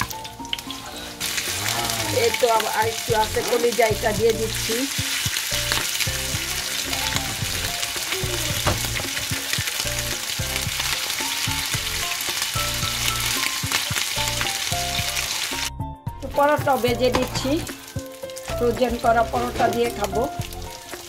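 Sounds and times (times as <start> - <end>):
patties sizzling in hot oil: 0.0 - 21.0.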